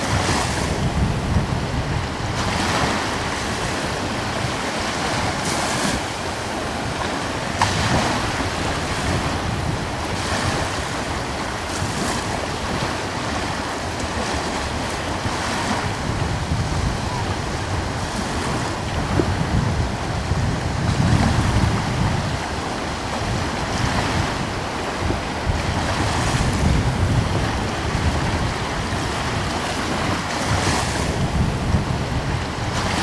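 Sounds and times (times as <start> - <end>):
ocean waves breaking: 0.0 - 33.0
wind buffeting microphone: 0.0 - 33.0.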